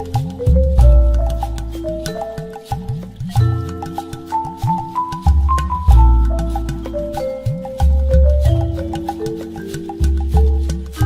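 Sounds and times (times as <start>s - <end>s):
light percussion ticks: 0.0s - 11.0s
melody of held notes: 0.0s - 11.0s.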